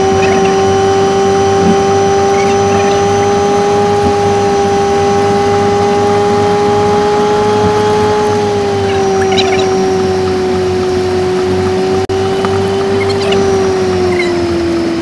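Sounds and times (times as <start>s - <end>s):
sped-up engine high-pitched hum: 0.0s - 15.0s.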